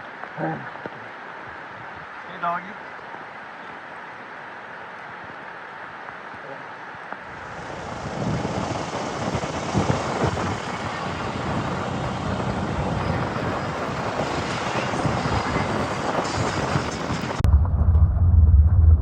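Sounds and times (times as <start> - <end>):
wind and road noise from moving vehicle: 0.0 - 19.0.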